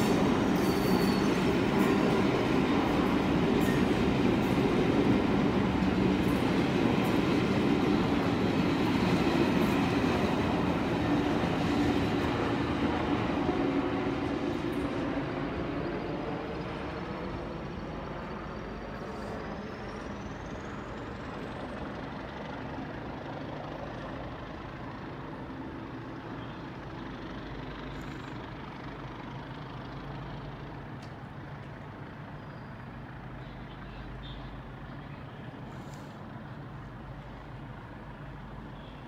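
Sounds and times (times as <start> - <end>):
passenger train rumbling: 0.0 - 39.0.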